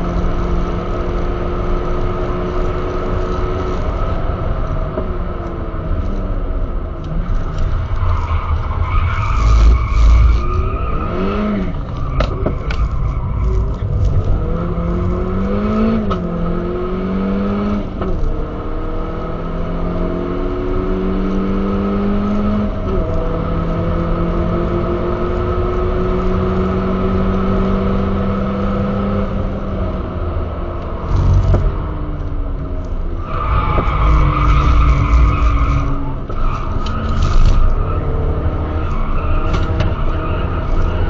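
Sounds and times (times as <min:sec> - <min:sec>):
tyre noise on rough road: 0:00.0 - 0:19.2, 0:19.9 - 0:41.0
car engine accelerating: 0:00.0 - 0:41.0.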